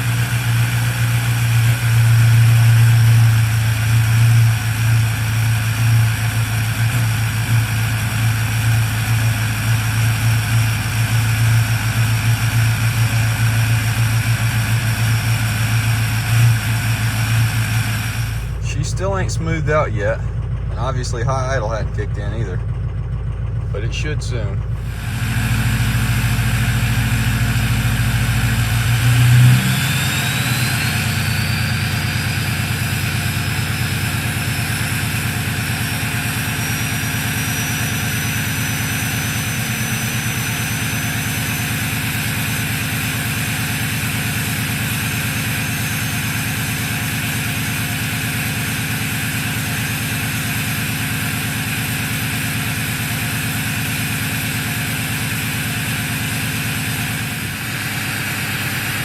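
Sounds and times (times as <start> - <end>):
diesel engine idling rough: 0.0 - 59.0.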